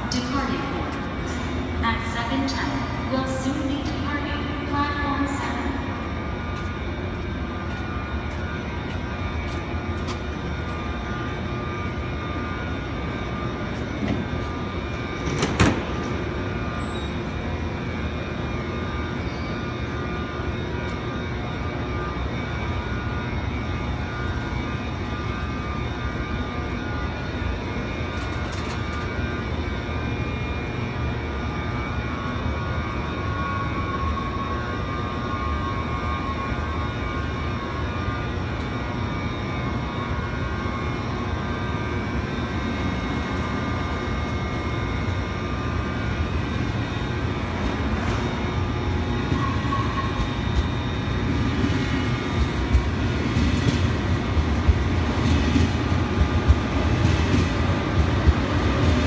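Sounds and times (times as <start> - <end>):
train humming with whining tones: 0.0 - 59.0.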